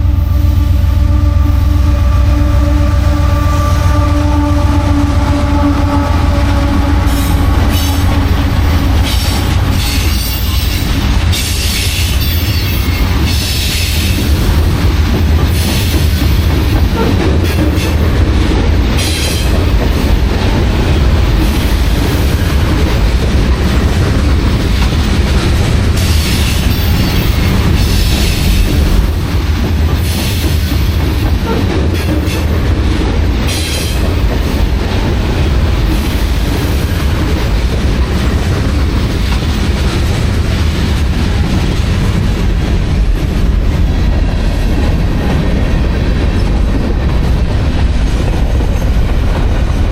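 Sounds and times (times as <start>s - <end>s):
freight train rumble and clickety-clack: 0.0s - 49.9s.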